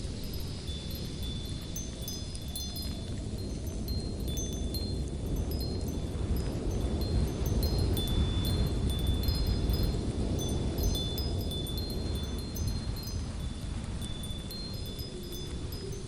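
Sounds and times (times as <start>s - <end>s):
light wind blowing: 0.0s - 16.0s.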